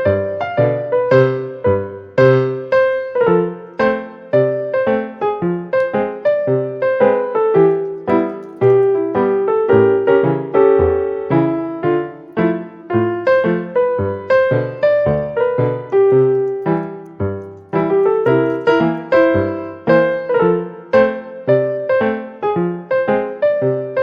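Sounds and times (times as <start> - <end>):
piano-like keyboard tune: 0.0 - 24.0.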